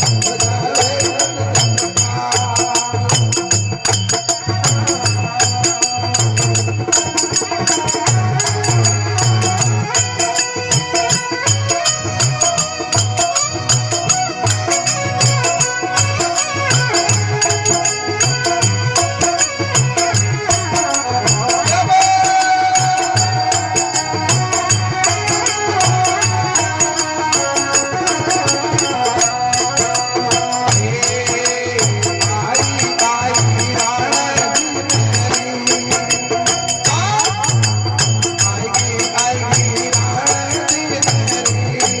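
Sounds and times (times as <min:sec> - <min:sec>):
jingling rattling percussion: 0:00.0 - 0:42.0
rhythmic drum beat: 0:00.0 - 0:42.0.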